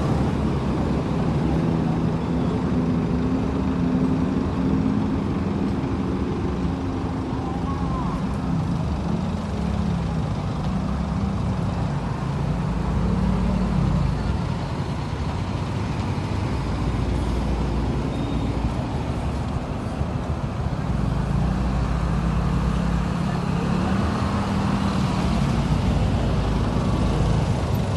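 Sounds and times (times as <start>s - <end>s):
bus engine droning: 0.0s - 27.9s
road and traffic noise: 0.0s - 27.9s.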